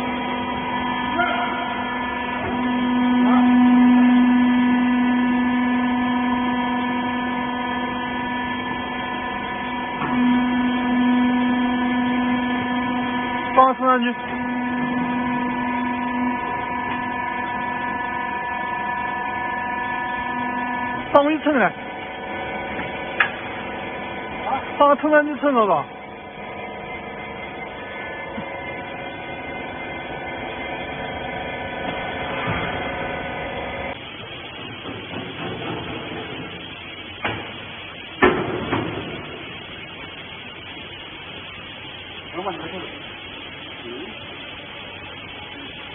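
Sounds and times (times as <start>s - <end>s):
hydraulic power unit humming: 0.0s - 45.9s.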